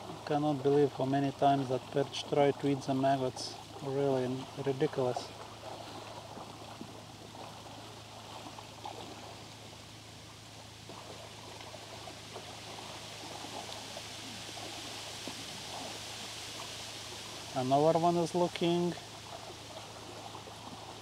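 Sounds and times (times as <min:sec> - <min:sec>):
faint water noise with crackling: 0:00.0 - 0:21.0
steady low hum: 0:00.0 - 0:21.0.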